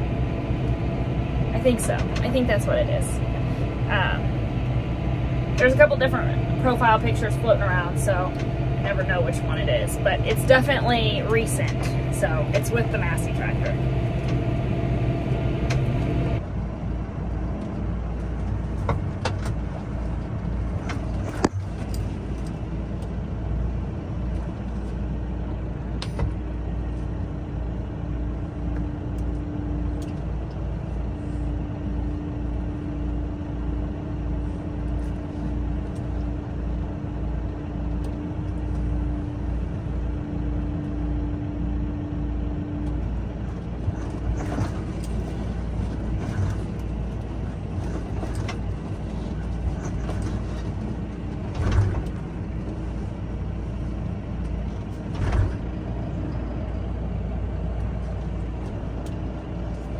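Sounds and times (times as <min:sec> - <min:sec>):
diesel engine running: 0:00.0 - 0:59.9
steady hum: 0:00.0 - 0:59.9.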